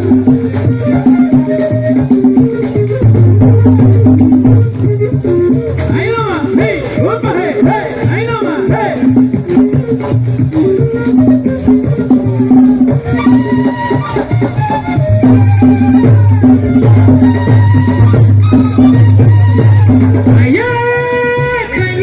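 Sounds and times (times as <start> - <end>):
maracas shaking: 0.0 - 22.0
steady drum pulse: 0.0 - 22.0
wind instrument melody: 0.0 - 22.0.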